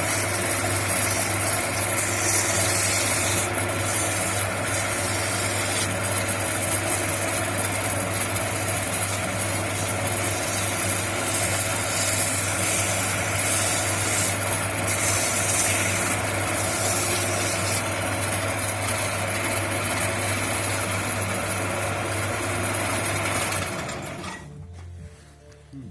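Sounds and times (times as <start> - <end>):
wood lathe motor humming: 0.0 - 24.3.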